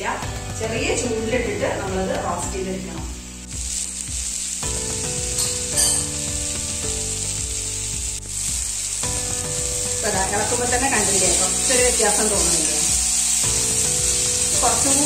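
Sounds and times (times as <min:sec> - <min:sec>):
okra sizzling in hot oil: 0:00.0 - 0:15.0
soft background music: 0:00.0 - 0:15.0.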